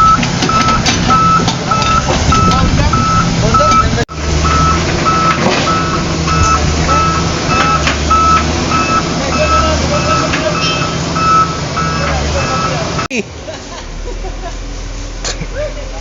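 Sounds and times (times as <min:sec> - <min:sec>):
reversing alarm beeping: 0:00.0 - 0:13.1
diesel engine rumble: 0:00.0 - 0:16.0.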